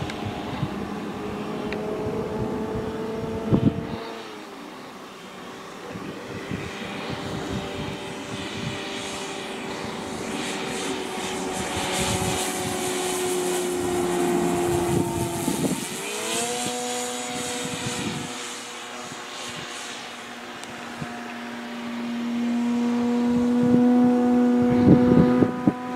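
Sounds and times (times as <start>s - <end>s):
model plane motor whining: 0.0s - 25.9s.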